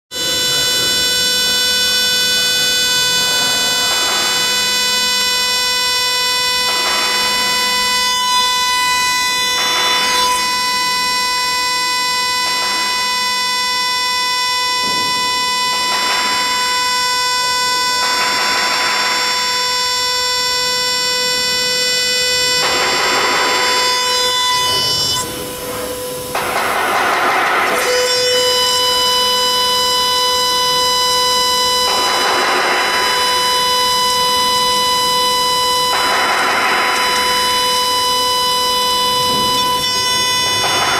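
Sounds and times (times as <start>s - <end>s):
rasping metal cutting noise: 0.1s - 40.9s
router spindle whining: 0.1s - 40.9s.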